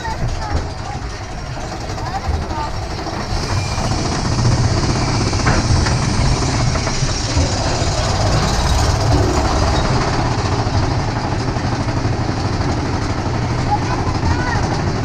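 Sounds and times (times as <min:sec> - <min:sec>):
roller coaster lift chain rattling: 0:00.0 - 0:15.0.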